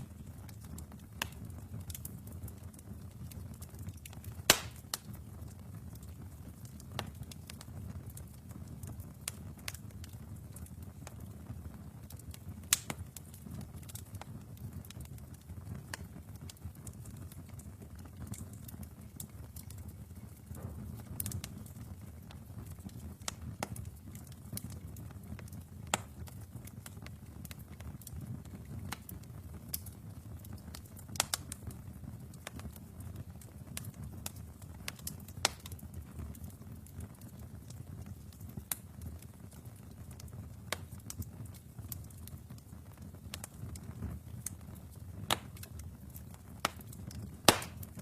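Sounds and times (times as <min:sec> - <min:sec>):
logs crackling and popping: 0:00.0 - 0:48.0
low rumble of flames: 0:00.0 - 0:48.0.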